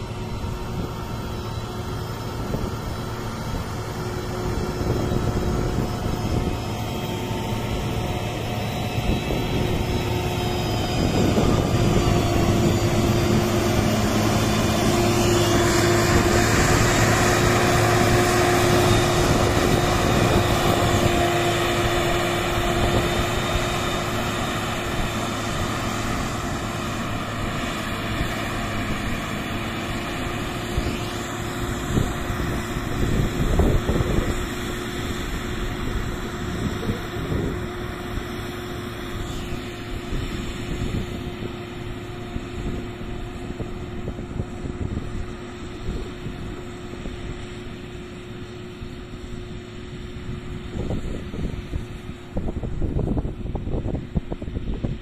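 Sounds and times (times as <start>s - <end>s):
grader diesel engine running: 0.0s - 55.0s
wind gusts on microphone: 0.0s - 55.0s.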